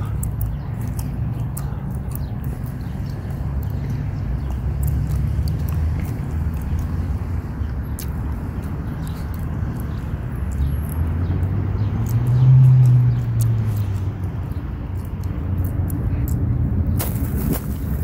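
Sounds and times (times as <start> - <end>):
low outdoor rumble: 0.0 - 18.0
passing vehicle engine hum: 0.0 - 18.0.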